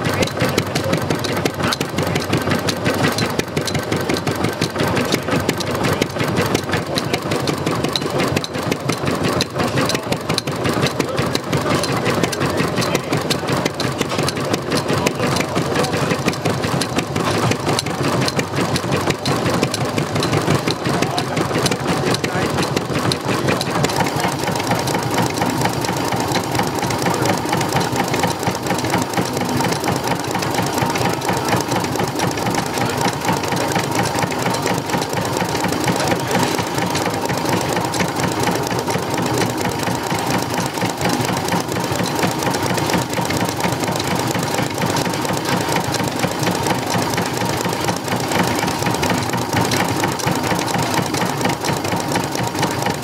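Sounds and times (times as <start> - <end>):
stationary engine clattering: 0.0 - 53.0.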